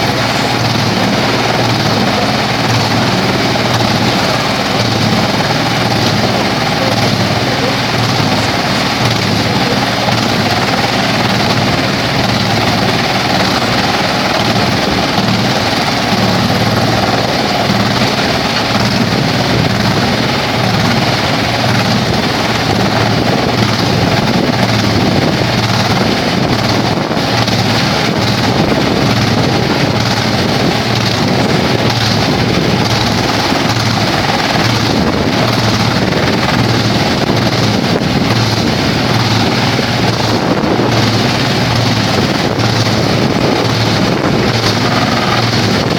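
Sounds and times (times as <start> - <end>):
wood chipper running: 0.0 - 45.9.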